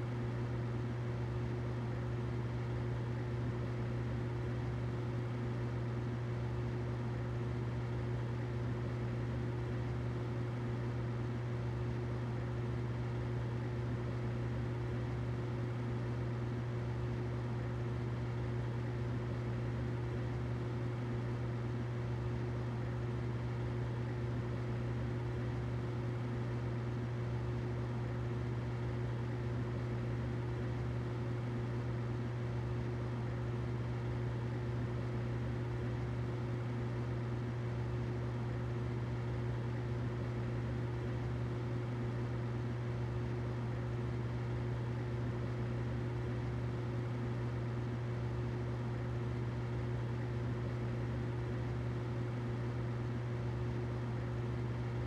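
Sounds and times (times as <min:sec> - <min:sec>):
humidifier humming and hissing: 0:00.0 - 0:55.0.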